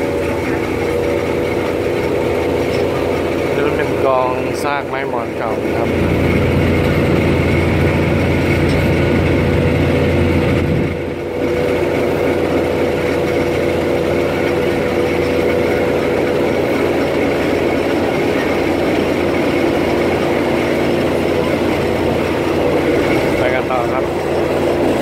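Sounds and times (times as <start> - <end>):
diesel train engine drone: 0.0 - 25.0
rail running noise: 0.0 - 25.0.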